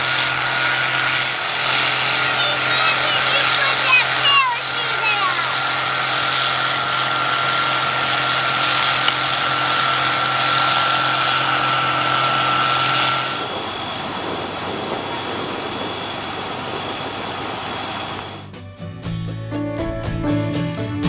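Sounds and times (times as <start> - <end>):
even hiss: 0.0 - 18.5
low hum: 0.0 - 18.5
machine running with whine: 0.0 - 18.5.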